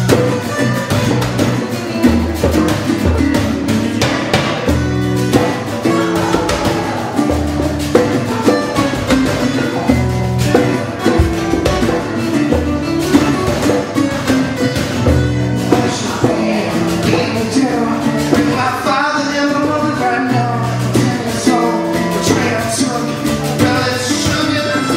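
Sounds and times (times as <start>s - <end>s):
acoustic guitars playing: 0.0s - 24.9s.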